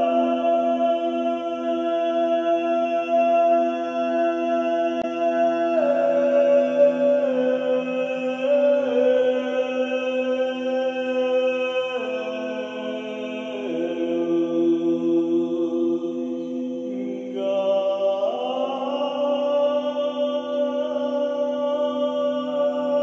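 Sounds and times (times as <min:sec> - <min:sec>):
person chanting: 0:00.0 - 0:23.0.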